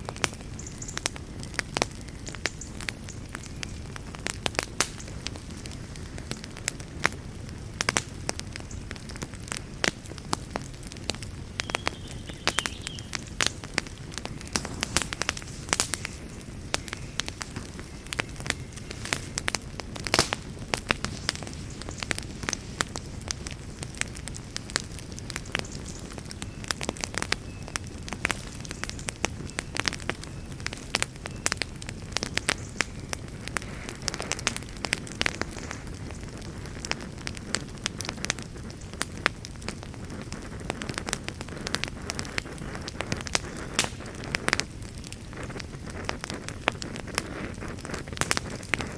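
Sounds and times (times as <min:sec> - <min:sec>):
wood crackling and popping: 0:00.0 - 0:48.9
low rush of flame: 0:00.1 - 0:48.9.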